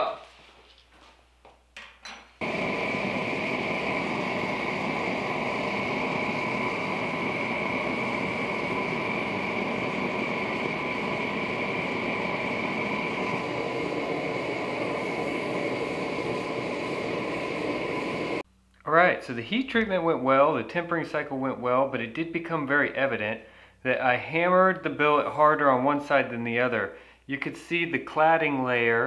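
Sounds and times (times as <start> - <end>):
forge burner hissing: 2.4 - 18.5, 19.3 - 29.0.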